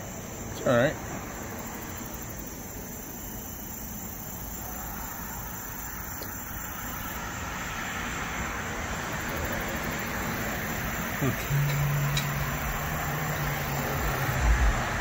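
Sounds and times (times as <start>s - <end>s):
crickets chirping: 0.0s - 15.0s
street traffic passing: 0.0s - 15.0s
car passing: 0.9s - 15.0s.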